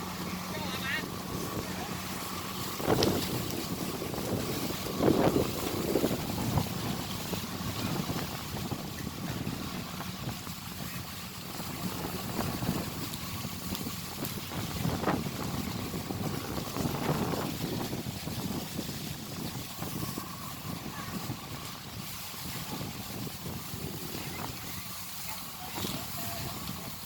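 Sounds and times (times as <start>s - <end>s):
combine harvester drone: 0.0s - 27.0s
wind buffeting microphone: 0.0s - 27.0s.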